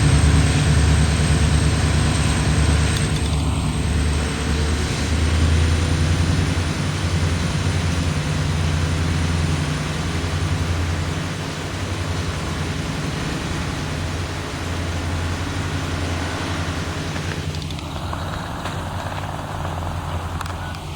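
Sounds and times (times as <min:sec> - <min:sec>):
high whine: 0:00.0 - 0:20.9
locomotive engine drone: 0:00.0 - 0:20.9.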